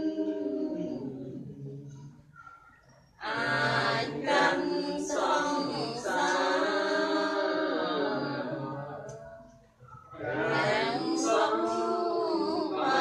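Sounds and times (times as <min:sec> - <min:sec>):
women chanting in unison: 0:00.0 - 0:02.6, 0:03.2 - 0:13.0.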